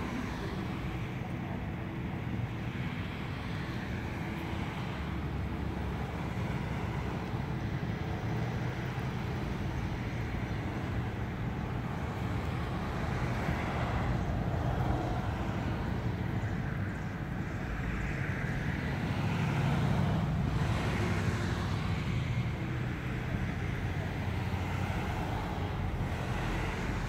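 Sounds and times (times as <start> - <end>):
outdoor street rumble: 0.0 - 27.0.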